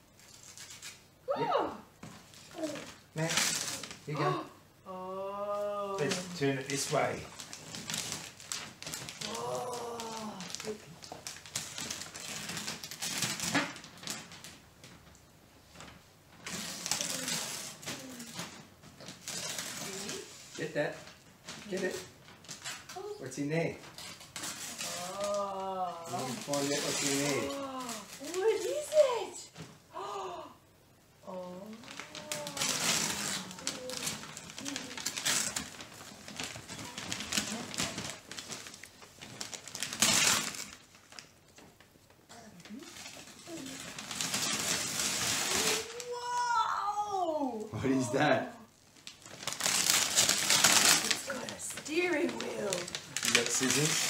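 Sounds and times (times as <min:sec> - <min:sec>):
wrapping paper tearing and crinkling: 0:00.1 - 0:01.2, 0:02.0 - 0:04.3, 0:06.0 - 0:29.7, 0:31.3 - 0:54.0.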